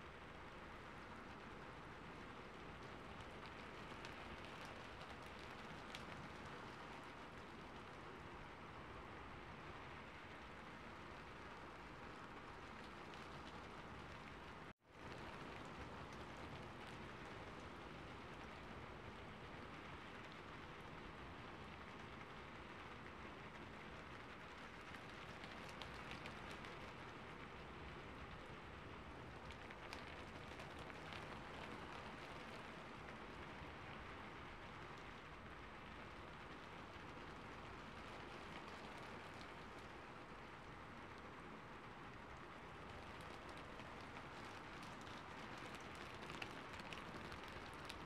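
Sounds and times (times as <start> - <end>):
soft steady rain: 0.0 - 48.0.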